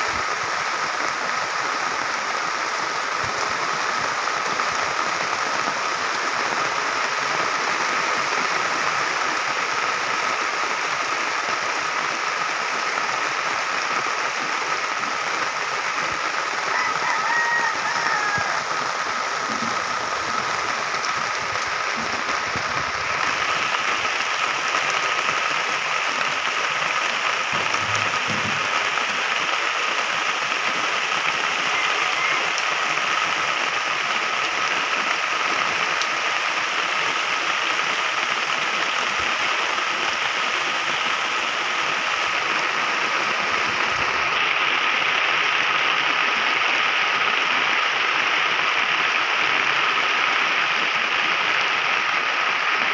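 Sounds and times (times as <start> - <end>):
rain on foliage: 0.0 - 52.9.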